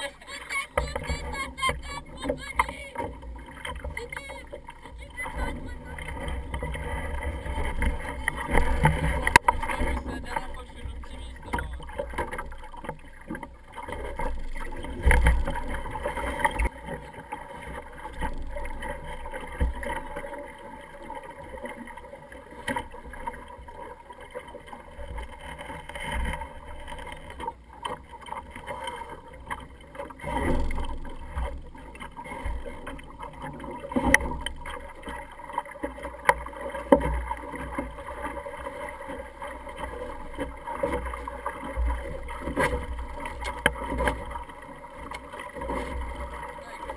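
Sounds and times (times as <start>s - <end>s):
water lapping against hull: 0.0s - 46.9s.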